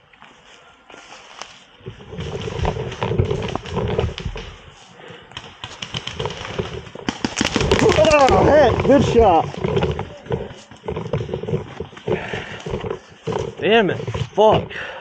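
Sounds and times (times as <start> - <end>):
rustle of movement on microphone: 0.0 - 14.7.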